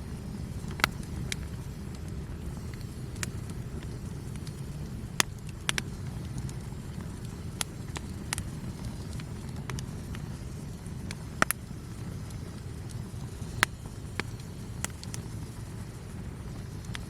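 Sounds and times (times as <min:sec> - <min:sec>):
campfire crackling and popping: 0:00.0 - 0:17.0
low steady rumble: 0:00.0 - 0:17.0.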